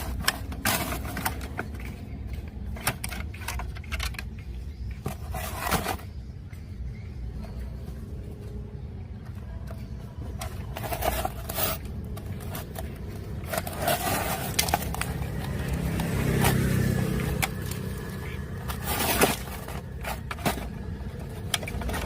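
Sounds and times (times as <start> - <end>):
irregular scraping: 0.0 - 6.3, 9.2 - 22.0.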